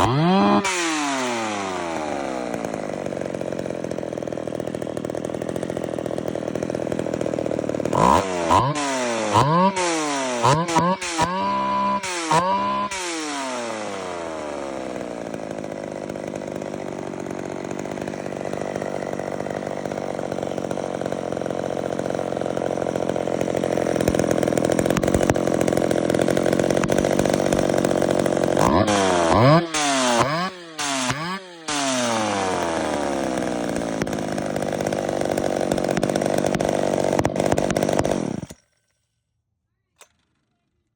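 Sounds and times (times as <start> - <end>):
chainsaw revving and running: 0.0 - 38.7.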